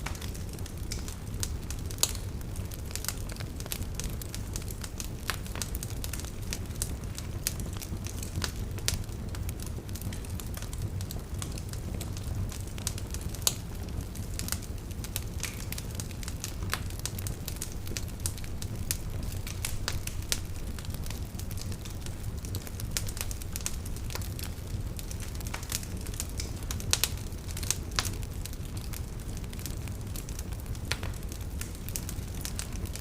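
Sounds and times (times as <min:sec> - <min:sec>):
low rumble of fire: 0:00.0 - 0:33.0
wood fire crackling and popping: 0:00.0 - 0:33.0.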